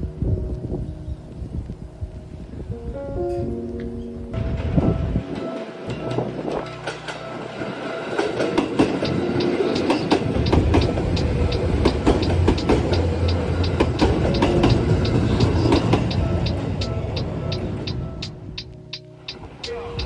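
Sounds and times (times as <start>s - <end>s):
train rumbling past: 3.2s - 20.0s.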